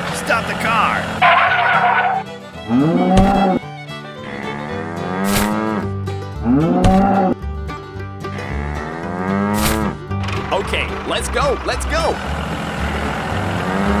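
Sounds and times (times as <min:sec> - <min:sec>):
background music: 0:01.2 - 0:14.0.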